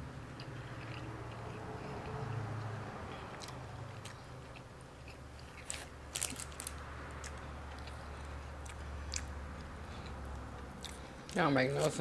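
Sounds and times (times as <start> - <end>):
person chewing food: 0.3 - 12.0.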